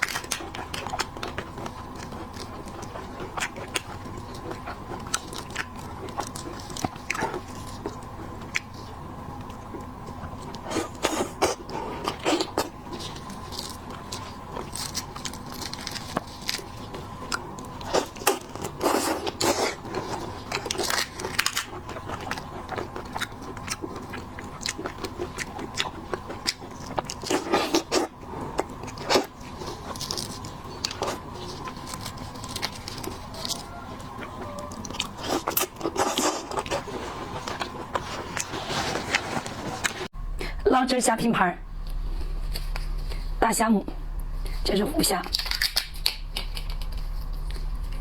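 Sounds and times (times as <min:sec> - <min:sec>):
person chewing seafood: 0:00.0 - 0:40.2, 0:45.3 - 0:48.0
faint steady hum: 0:00.0 - 0:48.0.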